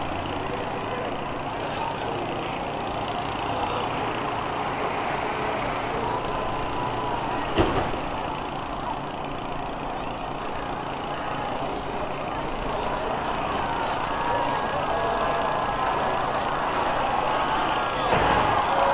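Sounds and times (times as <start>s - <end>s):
bus engines running: 0.0s - 18.9s.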